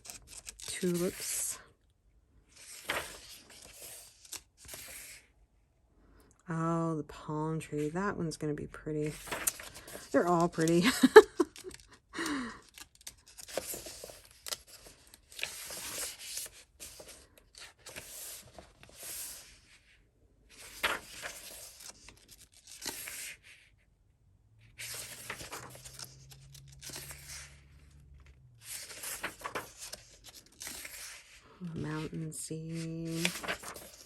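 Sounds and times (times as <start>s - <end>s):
paper pages turning: 0.0s - 1.4s, 2.5s - 5.2s, 9.0s - 23.7s, 24.8s - 34.0s.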